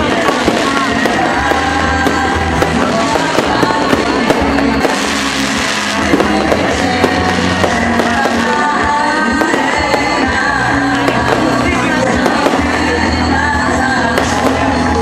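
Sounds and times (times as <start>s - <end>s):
fireworks crackling and banging: 0.0s - 15.0s
loud music: 0.0s - 15.0s.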